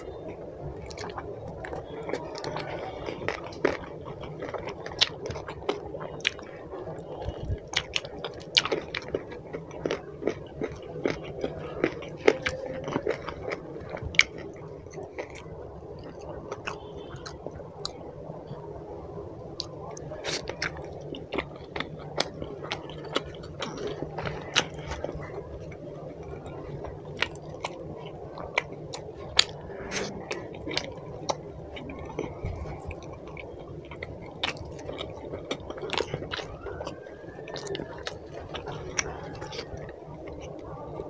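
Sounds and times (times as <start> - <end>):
wet chewing and lip-smacking: 0.0 - 18.0, 19.6 - 41.0.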